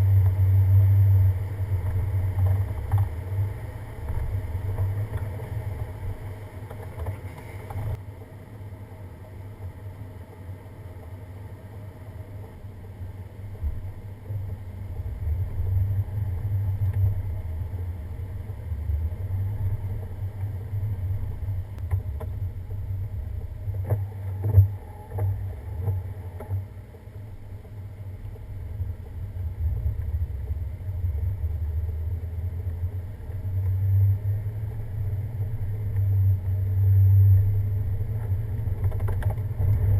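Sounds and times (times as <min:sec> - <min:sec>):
vehicle rumbling on snowy road: 0:00.0 - 0:39.9.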